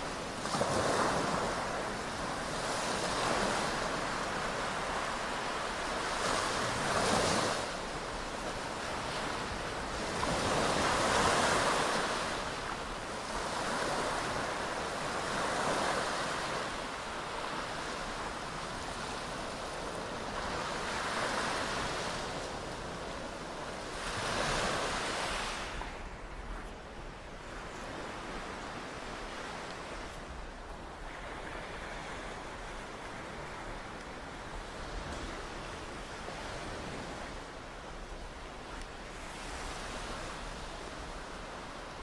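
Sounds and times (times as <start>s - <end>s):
sea waves washing onto beach: 0.0s - 42.0s.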